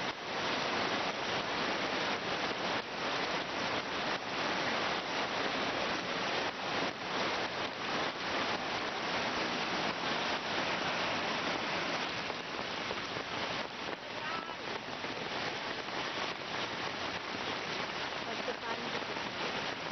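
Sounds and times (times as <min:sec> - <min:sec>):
rain falling: 0:00.0 - 0:19.9
rushing floodwater: 0:00.0 - 0:19.9.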